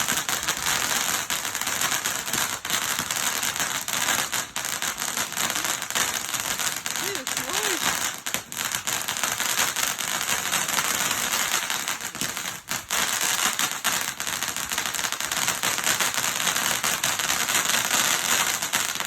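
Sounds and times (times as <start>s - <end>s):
firework crackling: 0.0s - 19.0s.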